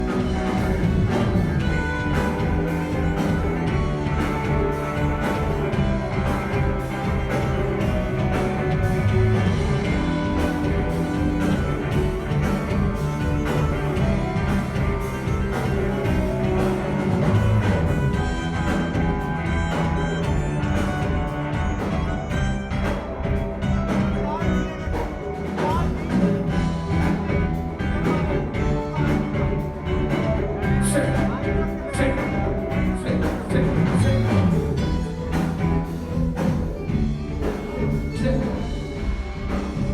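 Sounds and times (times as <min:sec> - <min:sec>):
loud band music through speakers: 0:00.0 - 0:39.9.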